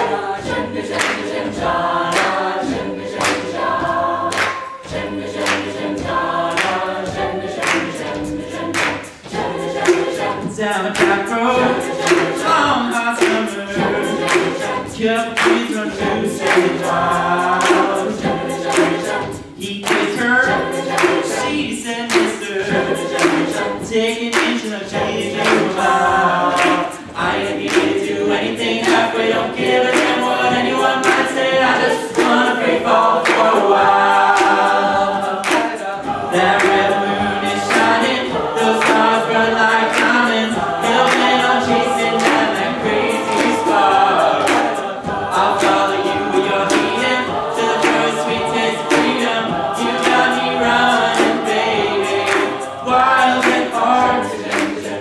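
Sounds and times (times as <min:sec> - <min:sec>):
group singing backing harmonies: 0:00.0 - 0:55.0
steady percussive beat: 0:00.0 - 0:55.0.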